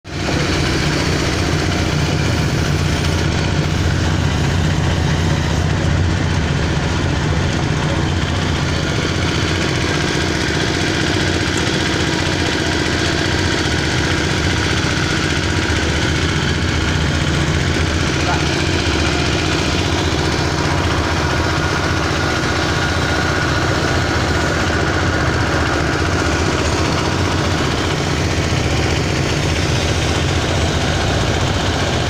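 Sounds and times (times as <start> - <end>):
small engine running steadily: 0.0 - 32.0.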